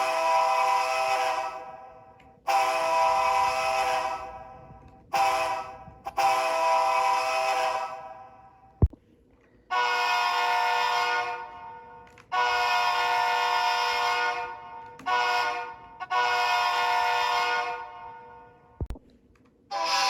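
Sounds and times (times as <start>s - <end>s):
locomotive air horn blasts: 0.0s - 8.7s, 9.7s - 18.8s, 19.7s - 20.0s.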